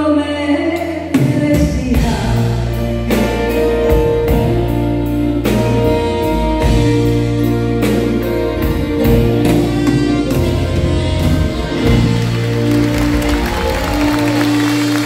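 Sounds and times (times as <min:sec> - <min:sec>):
live band playing a slow ballad: 0:00.0 - 0:15.0.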